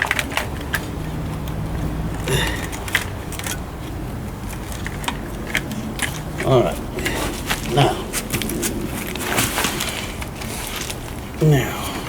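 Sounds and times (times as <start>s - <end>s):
wire connectors clicking and rattling: 0.0s - 11.4s.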